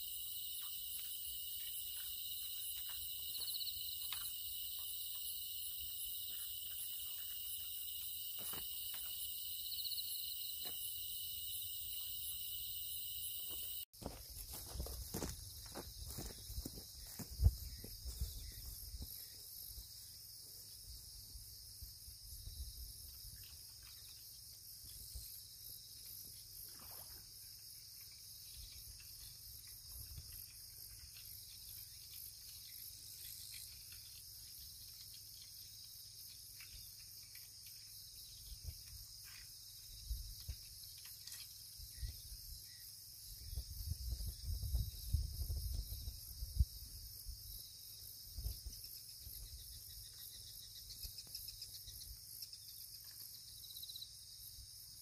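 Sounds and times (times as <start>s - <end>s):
crickets and insects trilling: 0.0s - 55.0s.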